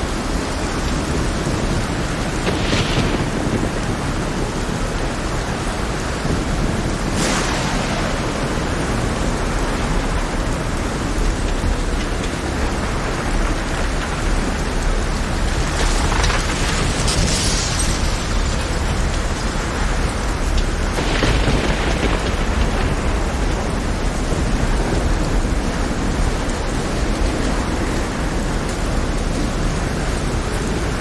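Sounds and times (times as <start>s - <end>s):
heavy rain: 0.0s - 31.0s
thunder rumbling: 0.0s - 31.0s.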